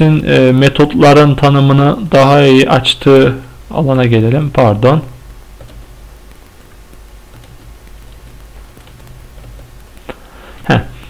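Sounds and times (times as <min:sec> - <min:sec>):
microphone hiss: 0:00.0 - 0:11.0
steady low hum: 0:00.0 - 0:11.0.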